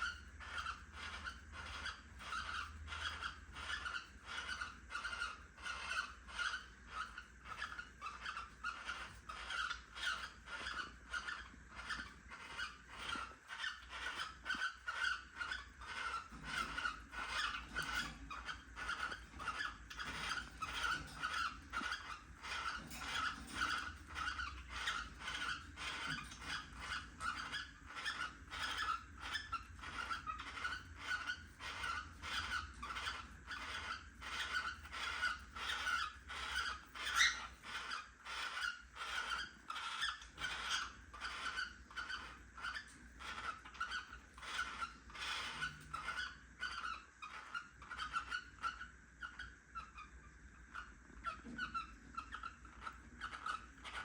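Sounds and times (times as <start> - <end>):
cockatiel chirping: 0.0 - 54.0.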